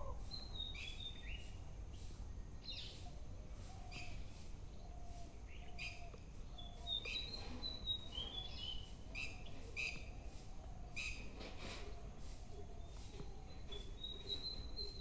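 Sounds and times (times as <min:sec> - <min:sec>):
birds harsh chirps: 0:00.0 - 0:15.0.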